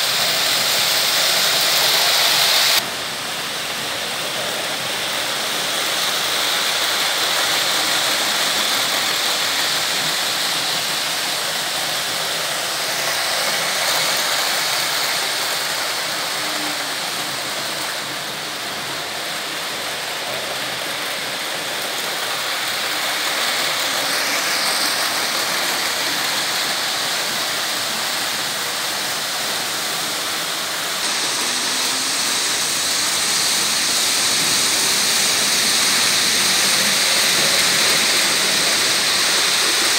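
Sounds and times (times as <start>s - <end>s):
model train wheels rattling on metal track: 4.0s - 39.9s.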